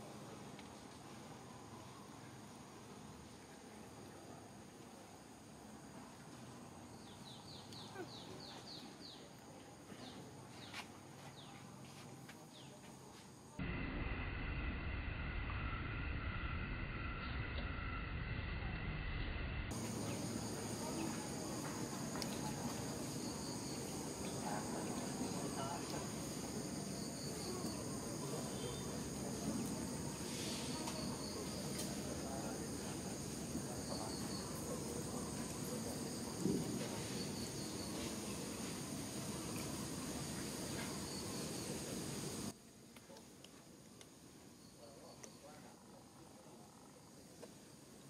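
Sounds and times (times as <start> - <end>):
insect chorus: 0.0 - 18.4, 19.7 - 48.0
low background noise: 0.0 - 48.0.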